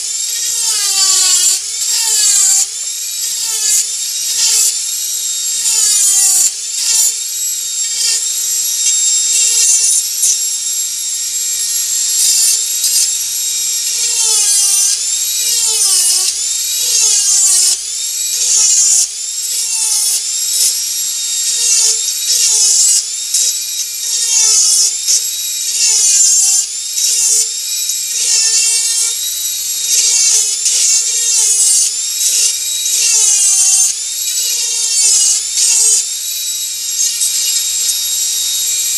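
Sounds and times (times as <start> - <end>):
rotary tool whining into wood: 0.0 - 38.9.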